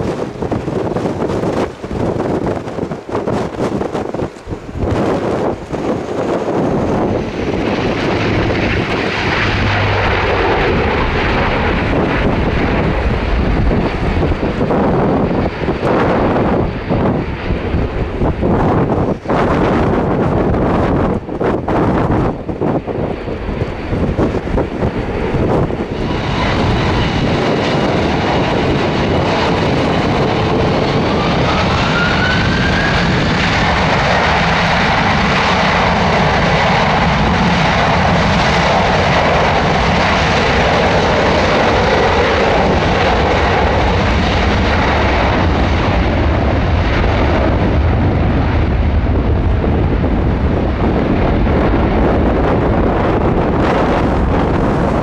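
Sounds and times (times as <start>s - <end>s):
jet engines roaring: 0.0s - 55.0s
rising engine whine: 0.0s - 55.0s
wind buffeting microphone: 0.0s - 55.0s.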